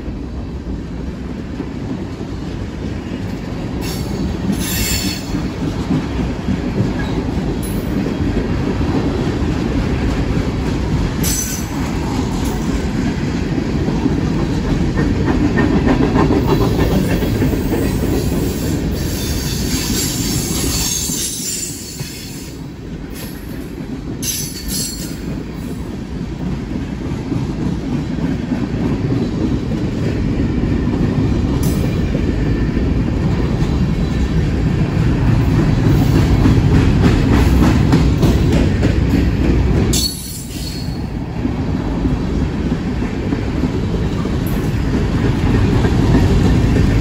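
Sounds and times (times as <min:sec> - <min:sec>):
freight train wheels rumbling: 0:00.0 - 0:47.0.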